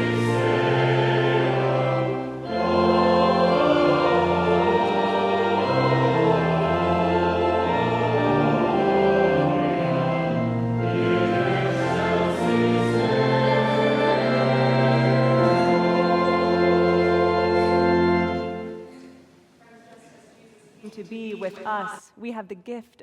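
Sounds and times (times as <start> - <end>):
organ: 0.0 - 18.9
voices singing: 0.0 - 18.9.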